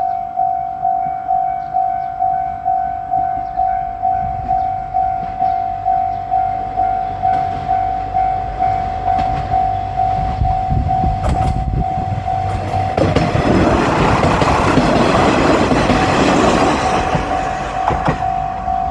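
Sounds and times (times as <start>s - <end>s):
railroad crossing bell ringing: 0.0s - 18.9s
train passing with wheel noise: 0.0s - 18.9s.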